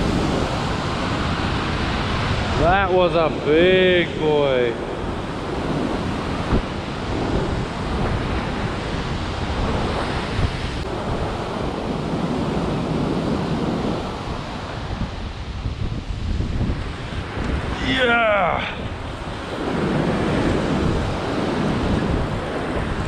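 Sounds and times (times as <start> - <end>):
ocean surf breaking: 0.0 - 23.0
wind buffeting microphone: 0.0 - 23.0.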